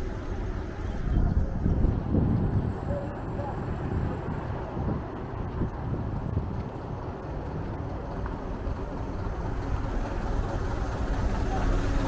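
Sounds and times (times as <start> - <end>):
street traffic: 0.0 - 12.0
wind buffeting microphone: 0.0 - 12.0.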